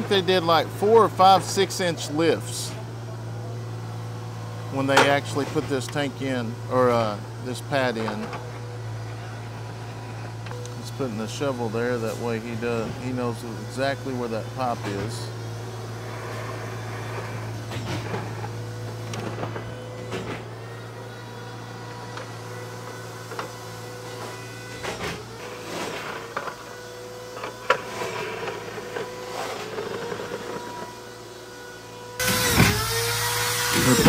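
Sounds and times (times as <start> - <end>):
excavator engine whining: 0.0 - 34.0.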